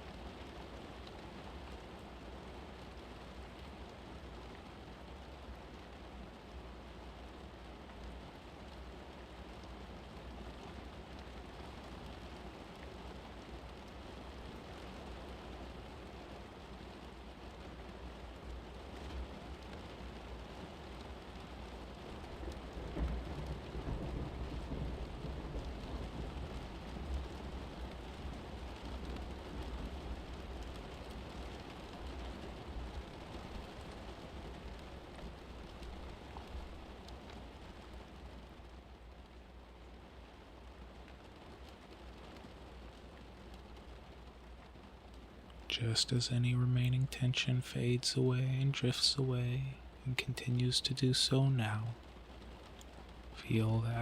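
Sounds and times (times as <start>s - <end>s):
steady rain-like hiss: 0.0s - 54.0s.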